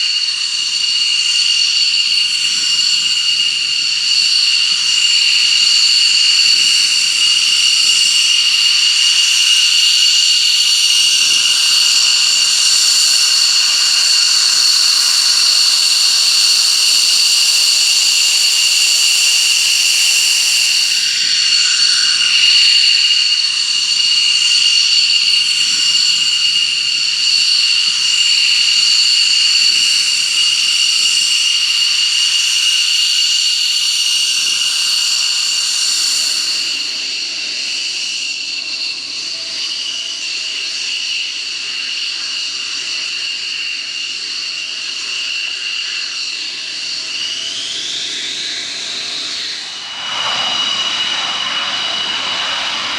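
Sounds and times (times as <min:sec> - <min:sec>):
jet engine turbine whine: 0:00.0 - 0:52.9.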